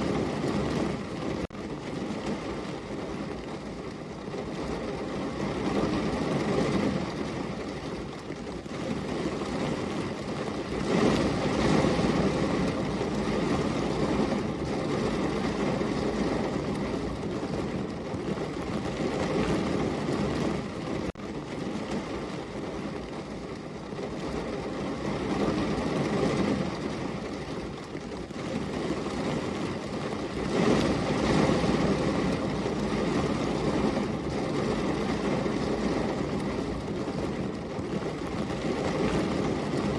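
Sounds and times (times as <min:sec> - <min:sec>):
heavy rain rushing: 0:00.0 - 0:39.9.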